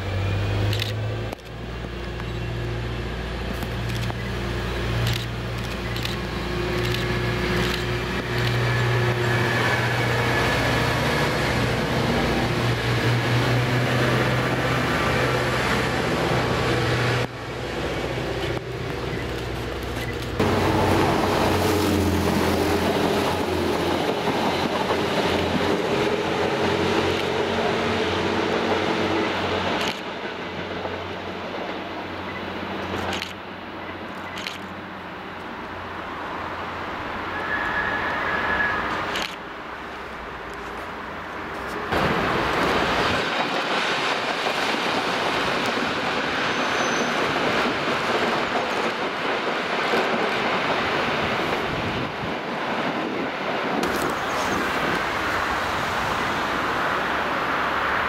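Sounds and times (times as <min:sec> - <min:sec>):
diesel train engine drone: 0:00.0 - 0:58.0
noisier diesel railcar passing: 0:00.0 - 0:58.0.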